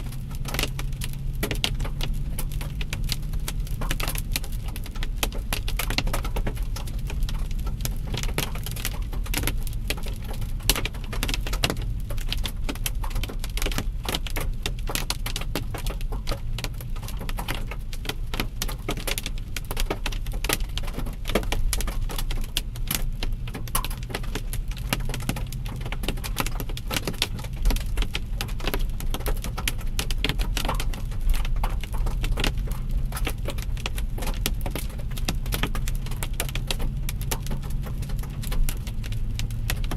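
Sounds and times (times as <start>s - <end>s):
hailstones pelting a car: 0.0s - 39.9s
vehicle rumbling on the road: 0.0s - 39.9s.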